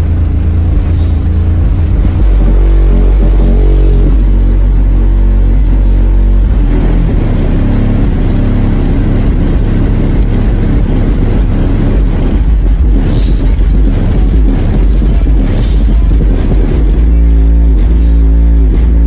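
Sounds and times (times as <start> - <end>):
loud bass-heavy music: 0.0 - 19.0.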